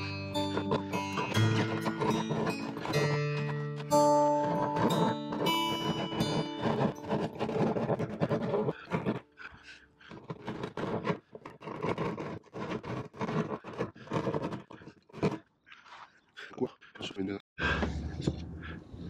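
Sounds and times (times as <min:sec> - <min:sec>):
hand saw rasping through fibreglass: 0:00.0 - 0:15.4.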